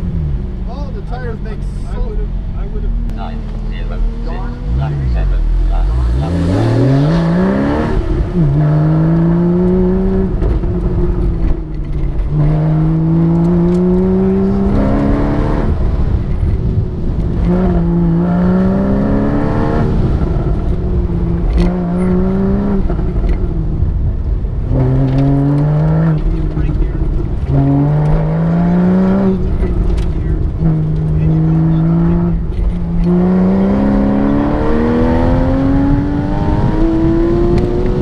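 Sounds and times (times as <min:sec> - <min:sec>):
sports car engine accelerating: 0:00.0 - 0:38.0.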